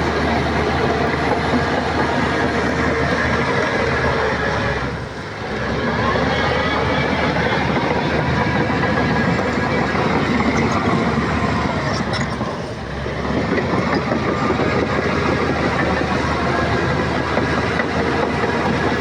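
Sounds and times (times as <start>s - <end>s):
bulldozer diesel engine clattering: 0.0s - 19.0s.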